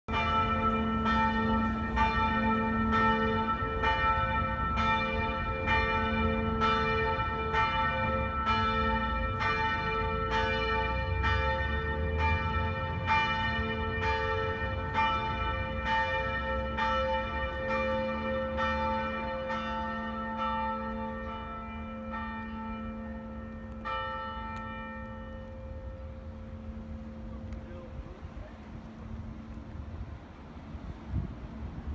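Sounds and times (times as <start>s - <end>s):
church bells ringing: 0.1s - 30.1s.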